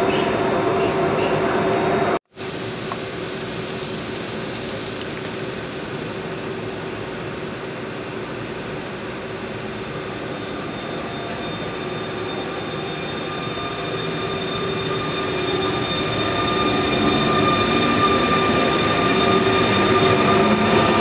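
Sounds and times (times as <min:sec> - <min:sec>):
electric locomotive passing: 0:00.0 - 0:21.0
whine of steady tones: 0:00.0 - 0:21.0.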